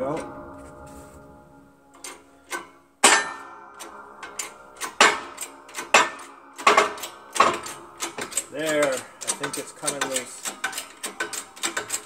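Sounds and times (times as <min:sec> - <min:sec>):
sharp ringing metal clangs: 0:00.0 - 0:12.0.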